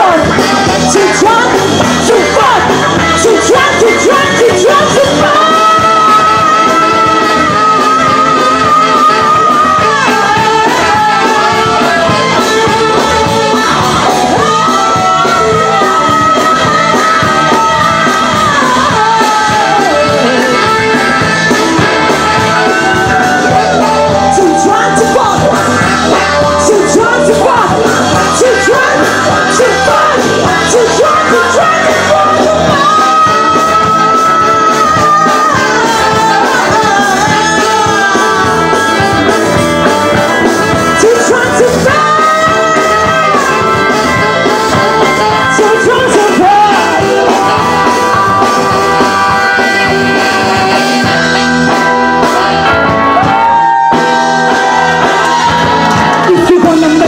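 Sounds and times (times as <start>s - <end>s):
woman singing into microphone: 0.0s - 52.5s, 53.2s - 57.0s
live band playing: 0.0s - 57.0s.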